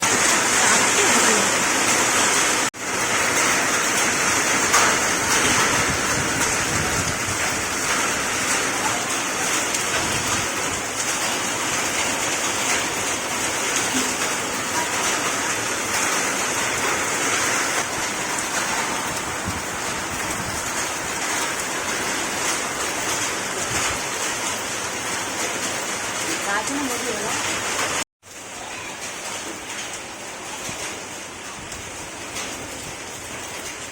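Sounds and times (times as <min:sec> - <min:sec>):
heavy rain and hail falling: 0:00.0 - 0:33.9.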